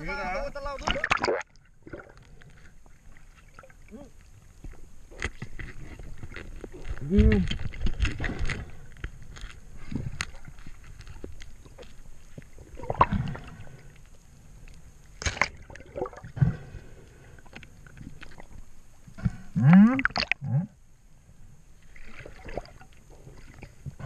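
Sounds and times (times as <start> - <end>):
water sloshing and gurgling: 0.4 - 24.0.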